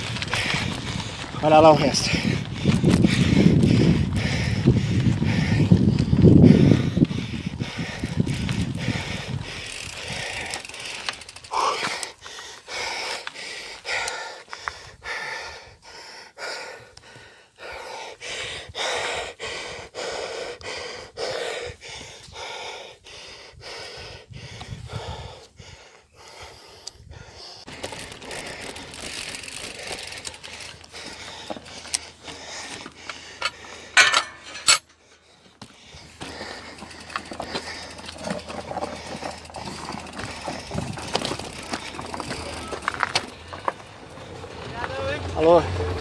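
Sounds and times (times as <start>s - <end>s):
man panting hard: 0.3s - 43.4s.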